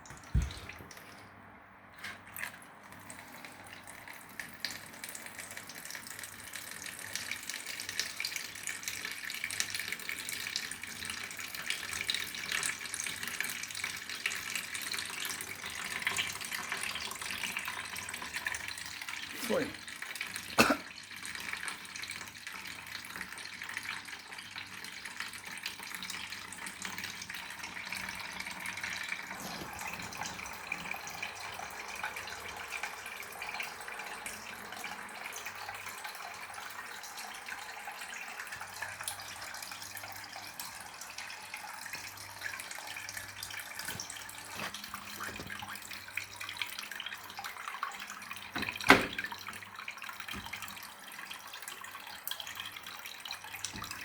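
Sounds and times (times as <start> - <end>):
water rushing into washing machine: 0.0 - 1.4, 2.0 - 54.0.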